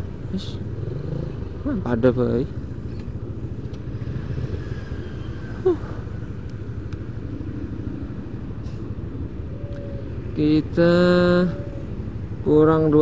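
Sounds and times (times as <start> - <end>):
traffic engines idling and moving: 0.0 - 13.0.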